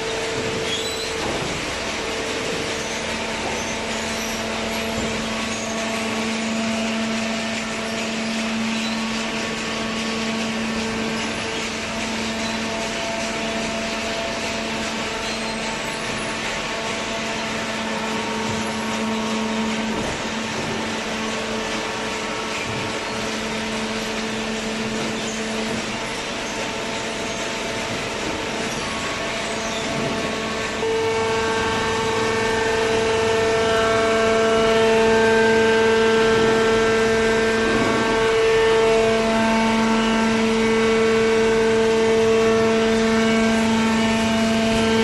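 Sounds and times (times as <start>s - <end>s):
baler motor and pump humming: 0.0s - 45.0s.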